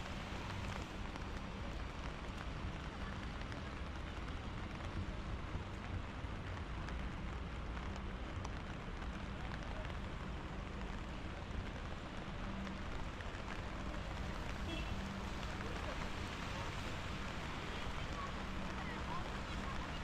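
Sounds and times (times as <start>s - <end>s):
steady rain on wet street: 0.0s - 20.0s.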